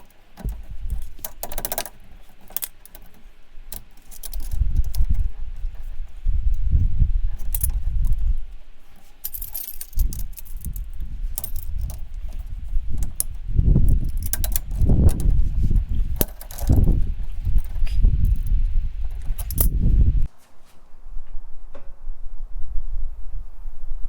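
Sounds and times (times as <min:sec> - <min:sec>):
light rattles and clicks: 0:00.0 - 0:19.9.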